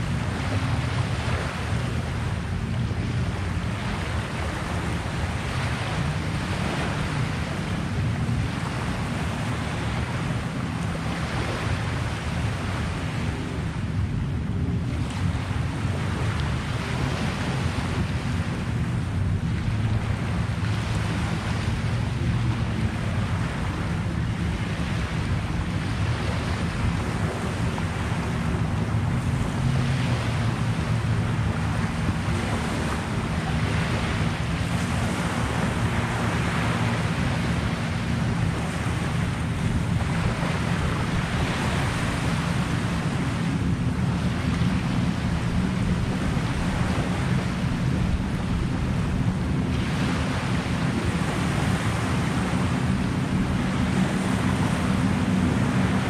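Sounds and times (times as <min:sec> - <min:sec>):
small waves washing on shore: 0:00.0 - 0:56.0
wind buffeting microphone: 0:00.0 - 0:56.0.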